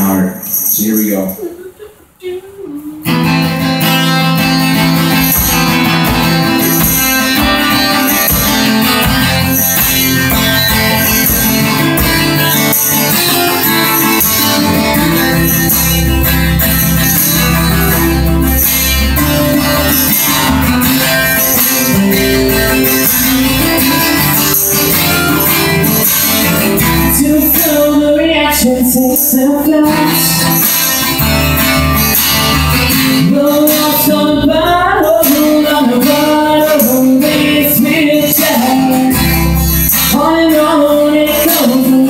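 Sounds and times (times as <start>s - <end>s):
band playing guitar-led music: 1.5s - 42.0s.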